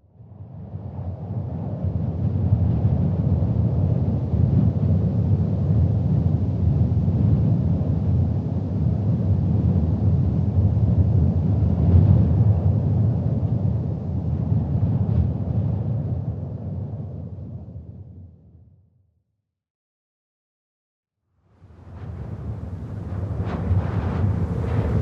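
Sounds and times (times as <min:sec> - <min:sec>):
wind buffeting microphone: 0:00.2 - 0:18.2, 0:21.6 - 0:25.0.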